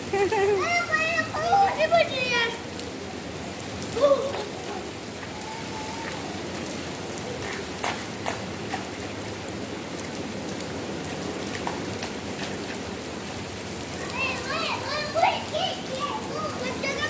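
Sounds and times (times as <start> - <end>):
raindrops tapping close by: 0.0 - 17.0
steady rain hiss: 0.0 - 17.0.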